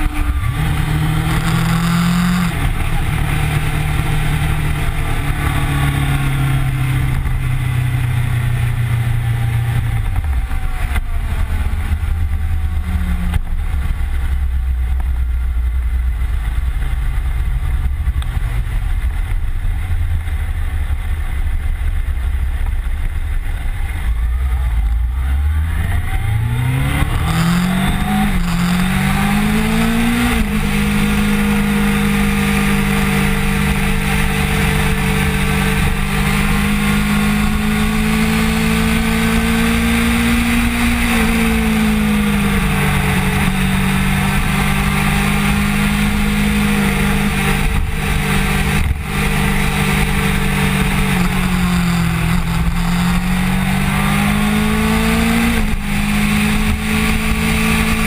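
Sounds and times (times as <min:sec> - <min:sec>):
motorcycle engine revving: 0:00.0 - 0:58.0
wind rush on microphone: 0:00.0 - 0:58.0.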